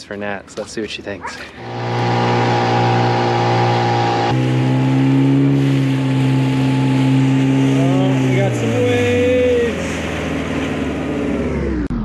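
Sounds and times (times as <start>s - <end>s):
outboard motor drone: 1.0s - 12.0s.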